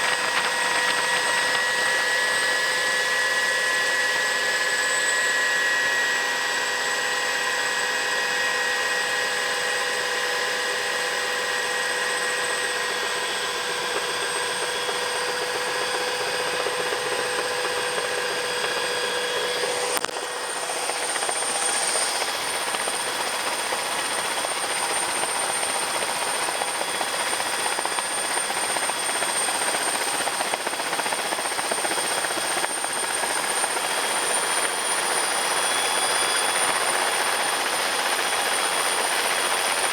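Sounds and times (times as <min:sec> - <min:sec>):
helicopter rotor and engine noise: 0:00.0 - 0:39.9
helicopter turbine whine: 0:00.0 - 0:39.9.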